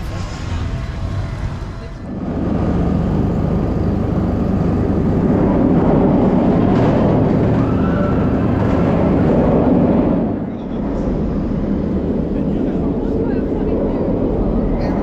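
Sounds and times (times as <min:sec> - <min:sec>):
roller coaster rushing rumble: 0:00.0 - 0:15.0.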